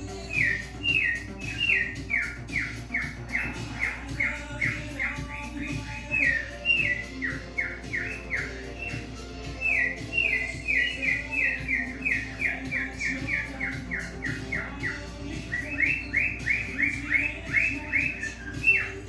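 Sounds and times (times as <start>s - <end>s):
cockatiel chirping: 0.0s - 19.0s
soft music: 0.0s - 19.0s.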